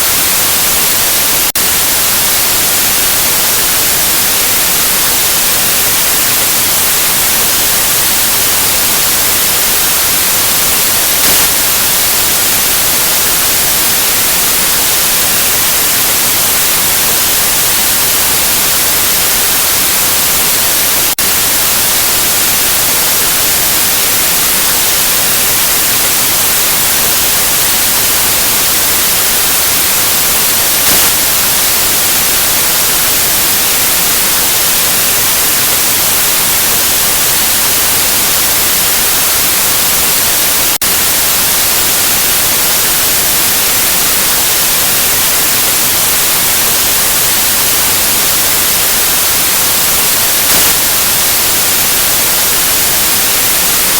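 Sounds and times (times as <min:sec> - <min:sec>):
steady white noise hiss: 0:00.0 - 0:53.9.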